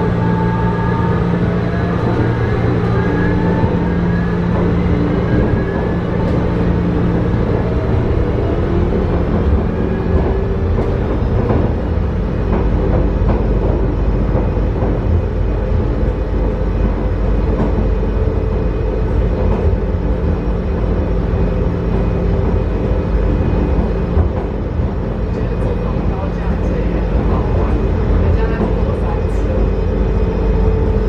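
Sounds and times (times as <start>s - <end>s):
constant hum: 0.0s - 31.0s
train wheels rumbling on track: 0.0s - 31.0s.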